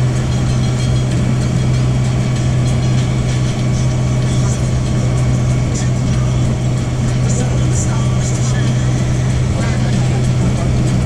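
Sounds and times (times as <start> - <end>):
tram engine humming: 0.0 - 11.0.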